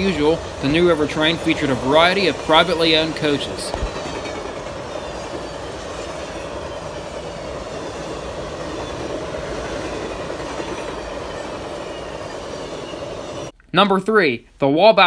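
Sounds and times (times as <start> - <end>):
train wheels on rails: 0.0 - 13.5.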